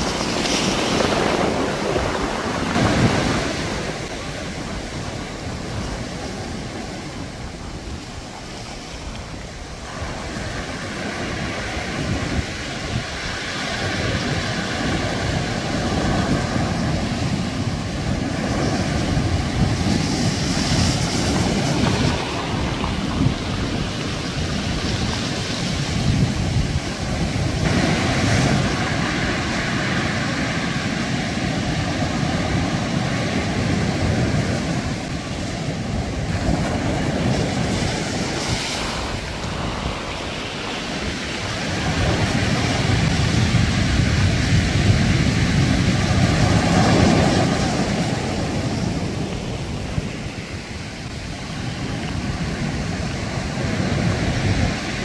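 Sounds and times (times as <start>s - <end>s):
surf washing up pebble beach: 0.0s - 55.0s
wind buffeting microphone: 0.0s - 55.0s.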